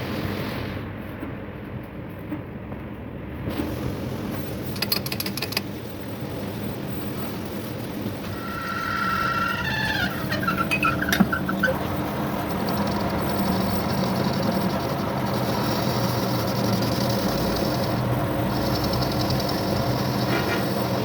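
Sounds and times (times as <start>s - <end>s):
machine humming with hiss: 3.6s - 21.0s.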